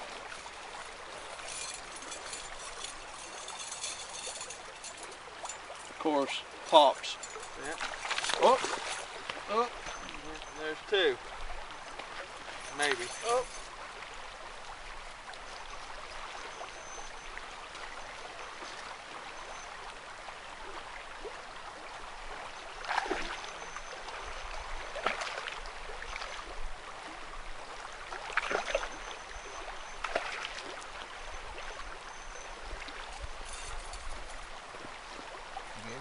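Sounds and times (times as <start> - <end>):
river running over riffle: 0.0 - 36.0.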